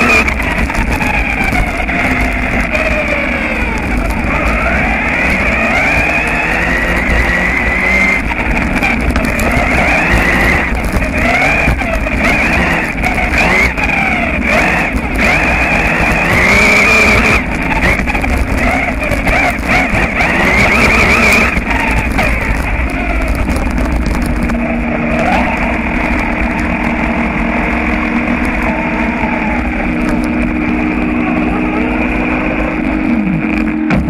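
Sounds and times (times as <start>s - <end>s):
rc buggy motor whining: 0.0s - 34.0s
tyres rumbling on gravel: 0.0s - 34.0s.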